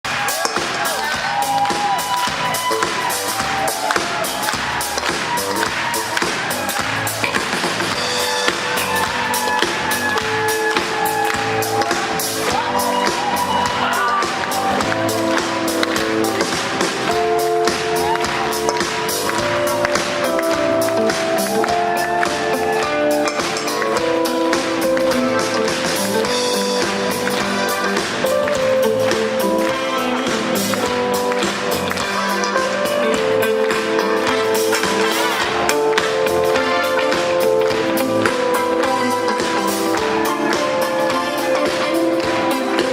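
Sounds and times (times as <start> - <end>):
rock band playing: 0.0 - 42.9
steady percussive beat: 0.1 - 42.9.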